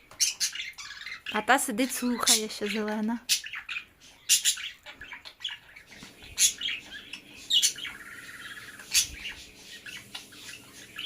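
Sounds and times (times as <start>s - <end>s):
parrot calls: 0.1s - 1.4s, 2.0s - 11.0s.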